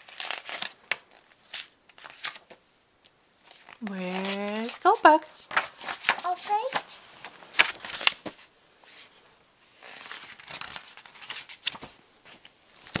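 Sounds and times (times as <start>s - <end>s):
book pages flapping: 0.0s - 2.7s, 3.4s - 9.1s, 9.8s - 13.0s
paper rustling: 0.0s - 2.8s, 3.4s - 13.0s.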